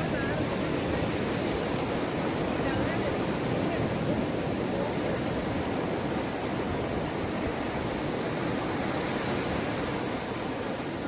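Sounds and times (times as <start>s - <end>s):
waves washing onto a beach: 0.0s - 11.0s.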